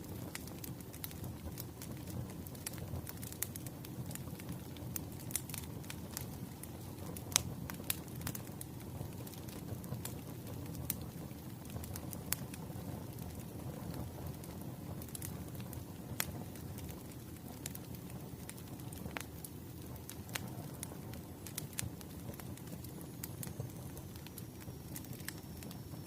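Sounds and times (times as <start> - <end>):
fire burning with crackles and pops: 0.0 - 26.0.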